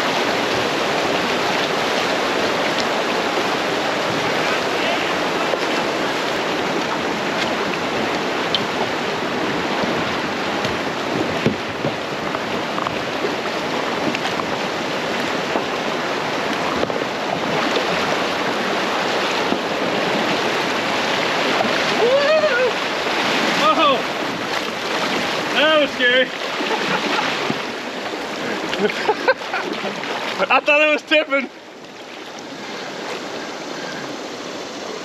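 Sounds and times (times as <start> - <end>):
rapids rushing over rocks: 0.0 - 35.0
paddle clicks and splashes: 0.1 - 30.7.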